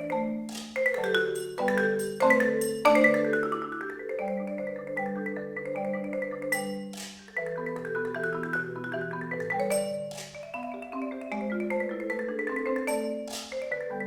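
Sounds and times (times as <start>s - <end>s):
marimbas playing: 0.0s - 14.0s.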